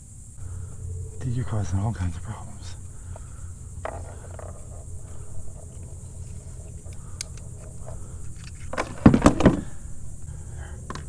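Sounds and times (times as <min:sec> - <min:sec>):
faint low rumble: 0:00.0 - 0:08.8, 0:09.6 - 0:11.0.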